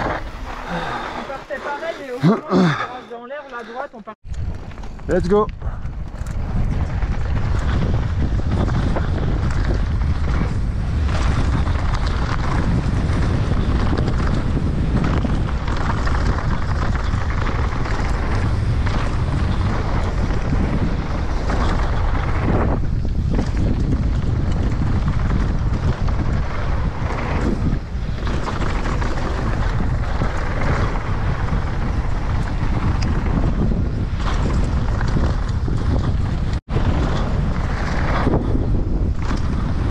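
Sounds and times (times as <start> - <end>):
wind roaring over camera microphone: 0.0 - 2.9, 4.2 - 39.9.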